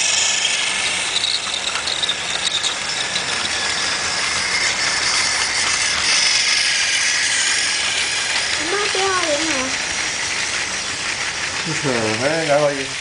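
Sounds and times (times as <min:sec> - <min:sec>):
toy train clicking on track: 0:00.0 - 0:13.0
toy train motor whirring: 0:00.0 - 0:13.0.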